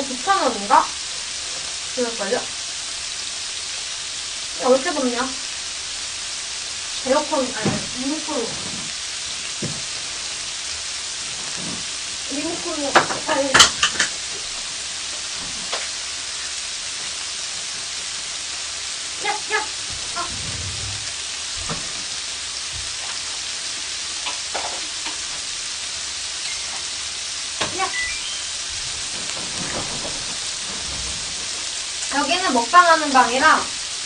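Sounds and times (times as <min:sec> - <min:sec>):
meat sizzling on a grill plate: 0:00.0 - 0:34.0.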